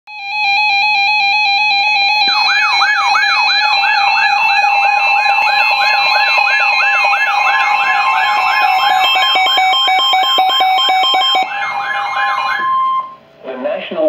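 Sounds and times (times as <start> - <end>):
rising warble alarm: 0.1 - 13.3
weather radio alarm tones: 0.1 - 13.3.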